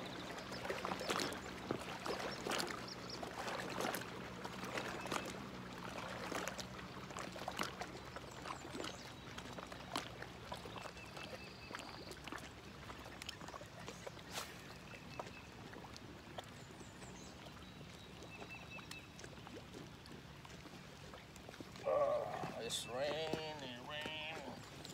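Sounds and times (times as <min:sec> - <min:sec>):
lake water lapping on rocks: 0:00.0 - 0:24.9.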